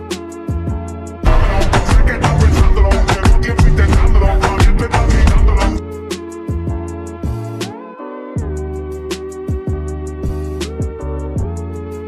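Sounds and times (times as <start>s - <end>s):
pop song with heavy bass beat: 0.0s - 12.0s.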